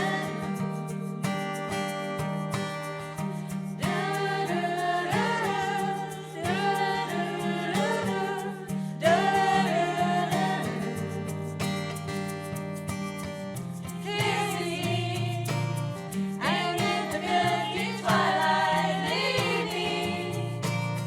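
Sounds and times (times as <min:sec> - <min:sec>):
people singing: 0:00.0 - 0:01.9, 0:02.5 - 0:13.0, 0:13.8 - 0:21.0
plucked guitar: 0:00.0 - 0:21.0.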